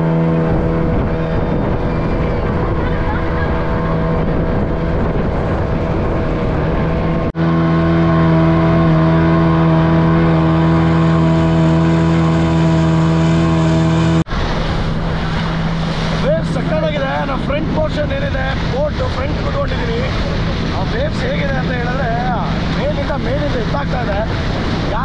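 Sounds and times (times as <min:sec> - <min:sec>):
boat motor running: 0:00.0 - 0:25.0
rushing water: 0:00.0 - 0:25.0.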